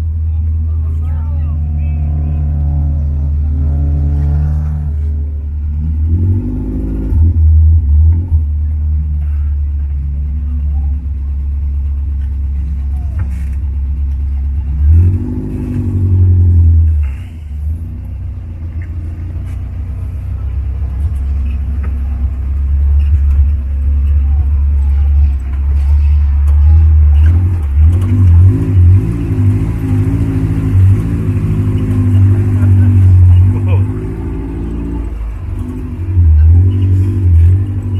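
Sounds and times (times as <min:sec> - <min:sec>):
jeep engine droning and revving: 0:00.0 - 0:37.9.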